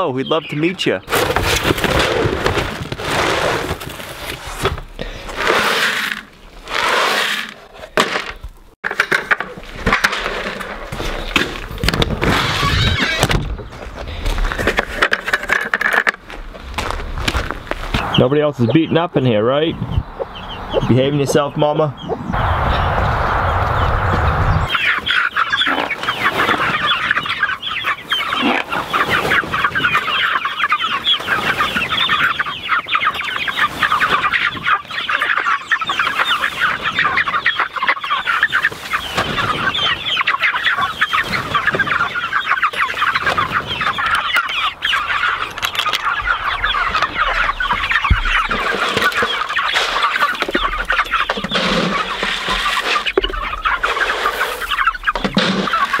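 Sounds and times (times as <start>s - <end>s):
chicks chirping and peeping: 0.0s - 7.6s, 9.6s - 56.0s.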